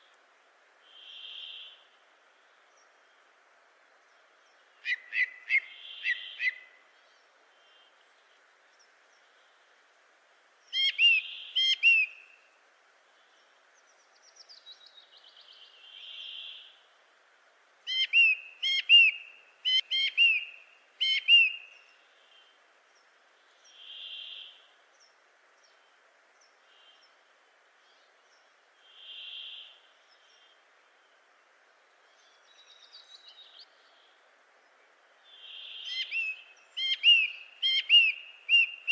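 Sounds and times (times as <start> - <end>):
steady faint hiss: 0.0 - 38.9.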